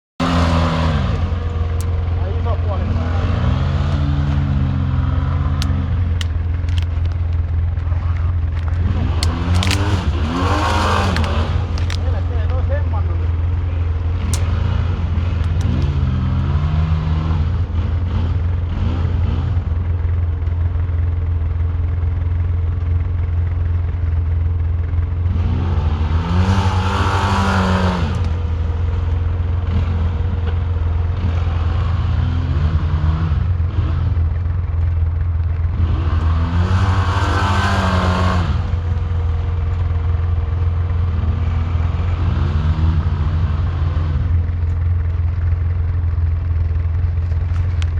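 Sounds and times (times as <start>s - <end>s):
atv engine revving: 0.2s - 20.5s, 24.8s - 47.9s.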